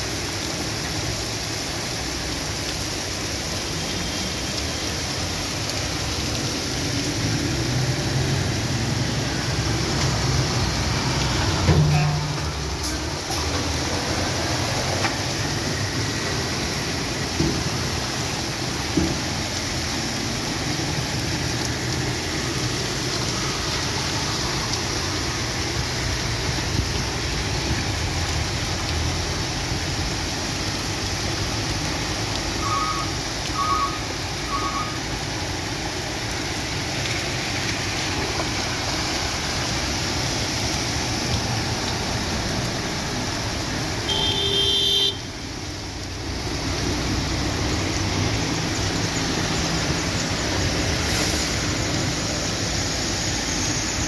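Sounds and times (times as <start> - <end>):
heavy rain pouring: 0.0 - 54.0
vehicles driving through water: 0.0 - 54.0.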